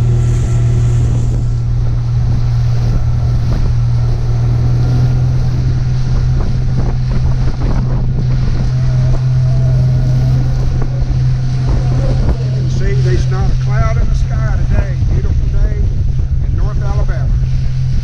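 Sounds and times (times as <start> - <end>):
motorboat engine droning: 0.0 - 18.0
water rushing past hull: 0.0 - 18.0
wind buffeting microphone: 0.0 - 18.0.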